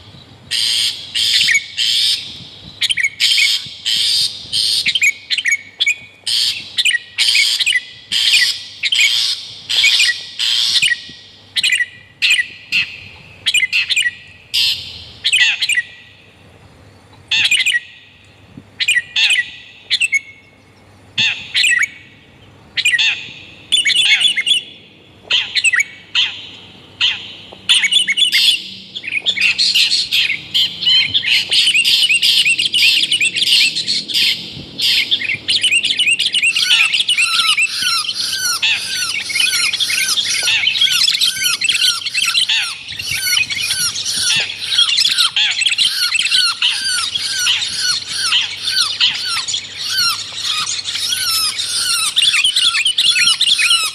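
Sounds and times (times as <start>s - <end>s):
harsh squawking bird calls: 0.0s - 16.3s, 17.3s - 18.2s, 18.8s - 20.4s, 21.2s - 53.9s.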